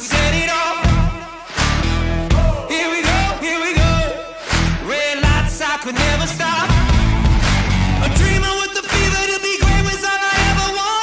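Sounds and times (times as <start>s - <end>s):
heavy bass beat: 0.0s - 11.0s
pop song with singing: 0.0s - 11.0s.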